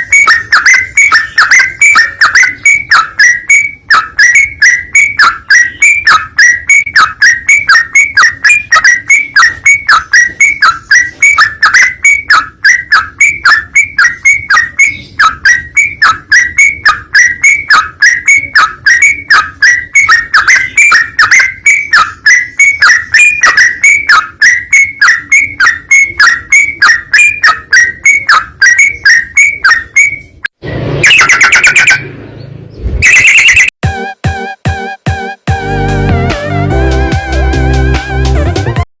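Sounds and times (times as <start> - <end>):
bird chirping: 0.0 - 33.7.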